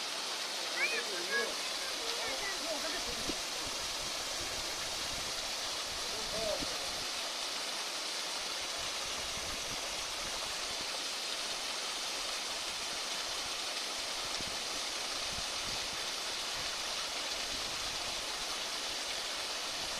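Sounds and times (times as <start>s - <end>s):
flowing water rushing: 0.0s - 19.9s.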